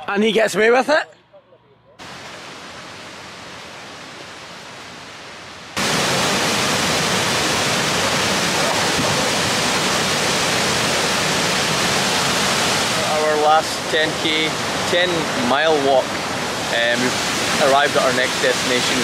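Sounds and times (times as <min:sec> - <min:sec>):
waterfall roaring: 0:02.0 - 0:19.0.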